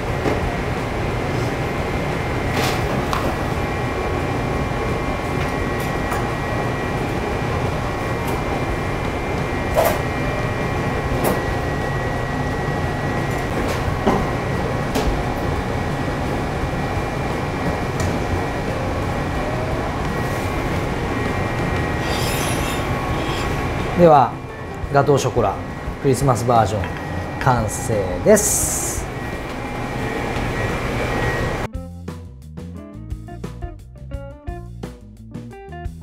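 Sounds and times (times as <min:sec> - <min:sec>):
ventilation hum with high whine: 0:00.0 - 0:31.7.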